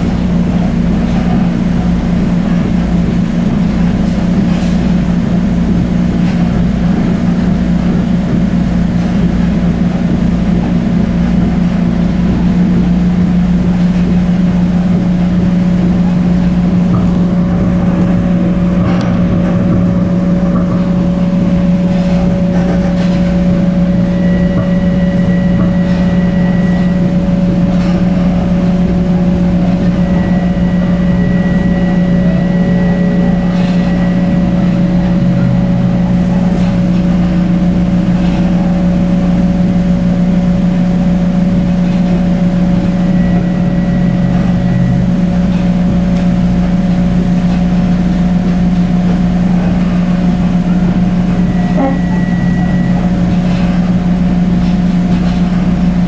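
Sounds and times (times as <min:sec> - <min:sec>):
low motor hum: 0:00.0 - 0:56.0
thin steady whine: 0:00.0 - 0:56.0
train wheels rumbling on rail: 0:00.0 - 0:56.0.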